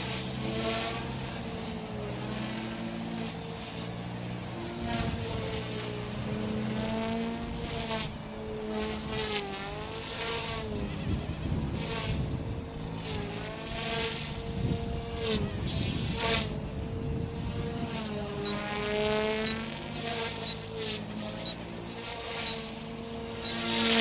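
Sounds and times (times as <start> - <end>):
rc helicopter rotor whine: 0.0 - 24.0.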